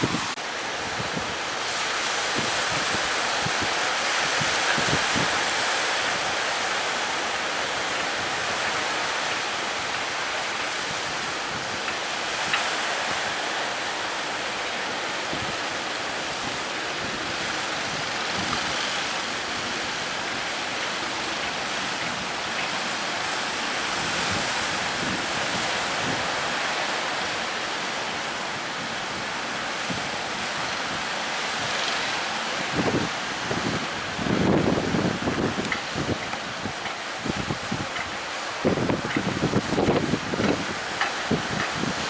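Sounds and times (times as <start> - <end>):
ocean surf breaking: 0.0 - 42.0
wind on microphone: 0.0 - 42.0.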